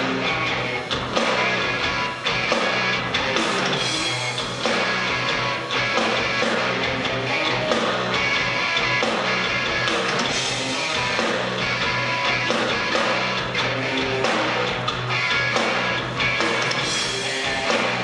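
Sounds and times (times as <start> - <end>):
distorted electric guitar: 0.0 - 18.0
live noise rock band: 0.0 - 18.0.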